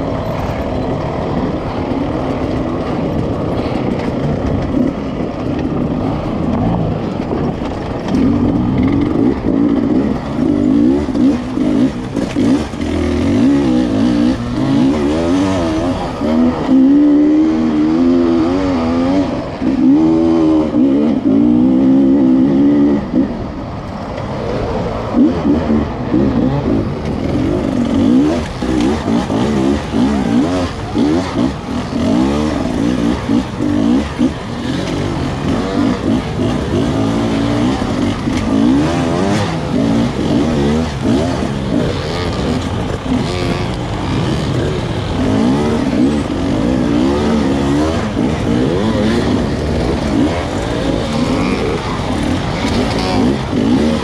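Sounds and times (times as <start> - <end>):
dirt bike engine revving: 0.0 - 23.5, 24.4 - 54.0.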